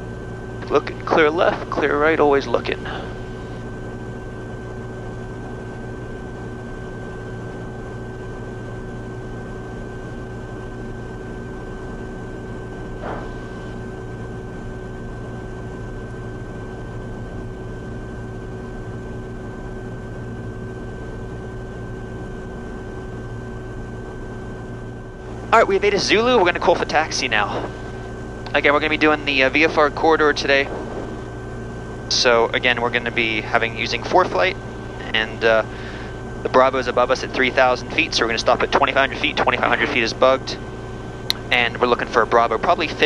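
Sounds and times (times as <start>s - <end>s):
propeller plane engine idling: 0.0s - 43.0s.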